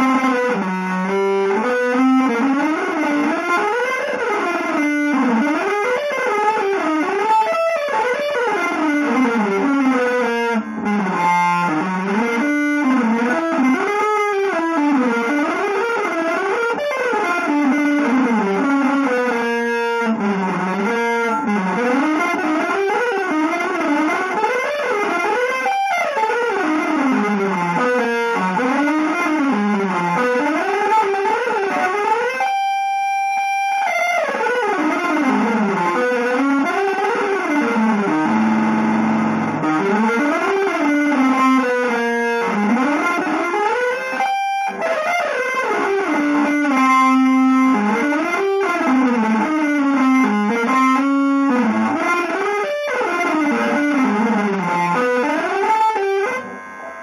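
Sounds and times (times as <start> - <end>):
solo electric guitar improvising: 0.0 - 57.0.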